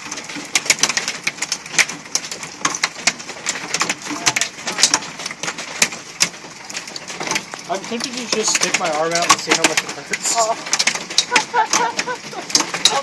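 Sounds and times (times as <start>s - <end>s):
hailstones striking hard surfaces: 0.0s - 13.0s
rush of falling precipitation: 0.0s - 13.0s.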